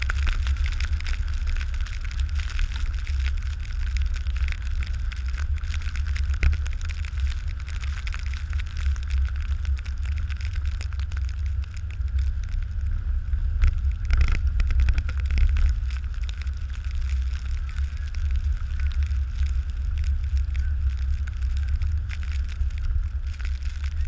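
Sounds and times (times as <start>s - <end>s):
truck engine low rumble: 0.0s - 24.0s.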